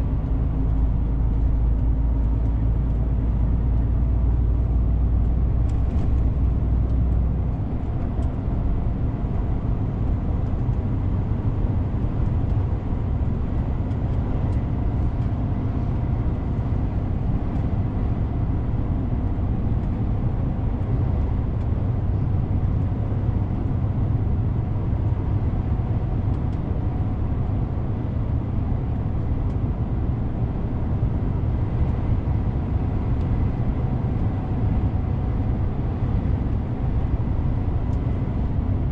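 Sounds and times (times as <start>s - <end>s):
diesel truck engine drone: 0.0s - 38.9s
road noise: 0.0s - 38.9s.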